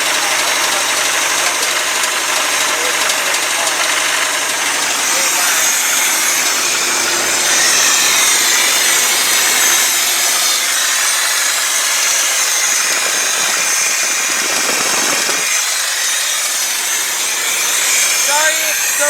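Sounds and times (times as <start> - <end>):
truck engine running loud: 0.0 - 19.0.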